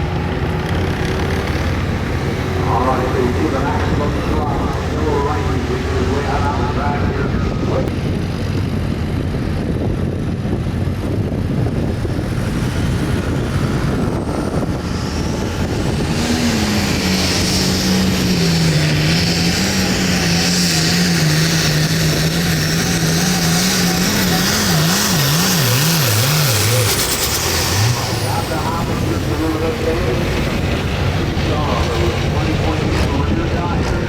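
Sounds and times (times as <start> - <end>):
diesel tractor engine running hard: 0.0 - 34.0.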